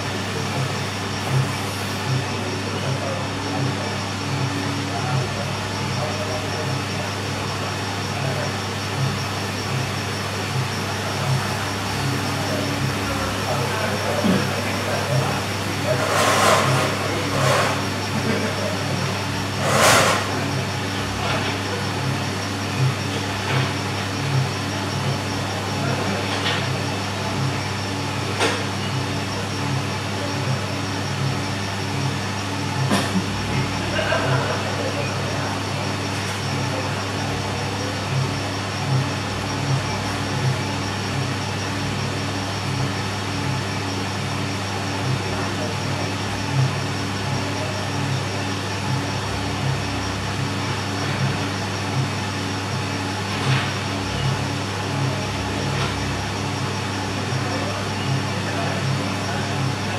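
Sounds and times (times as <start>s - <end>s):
coffee roaster motor humming: 0.0s - 59.9s.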